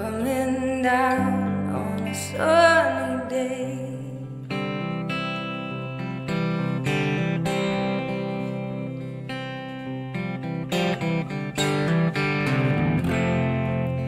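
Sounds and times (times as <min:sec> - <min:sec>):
electric guitar strumming chords: 0:00.0 - 0:14.0.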